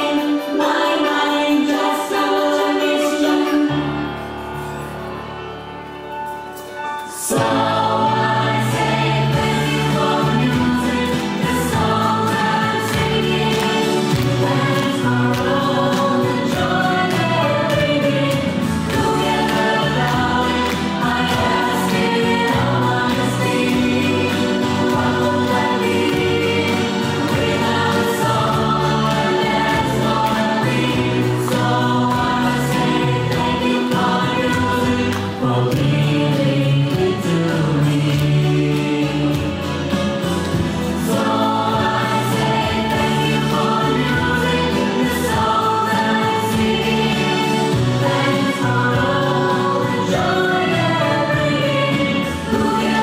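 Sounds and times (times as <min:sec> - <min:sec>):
group singing: 0:00.0 - 0:04.2, 0:07.0 - 0:53.0
music with steady beat: 0:06.0 - 0:53.0.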